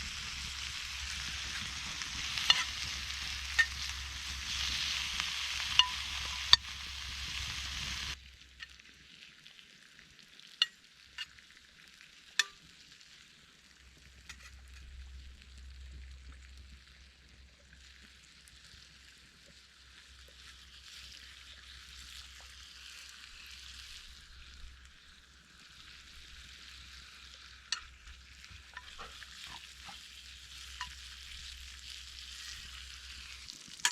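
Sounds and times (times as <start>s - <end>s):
food sizzling in a pan: 0.0s - 33.9s.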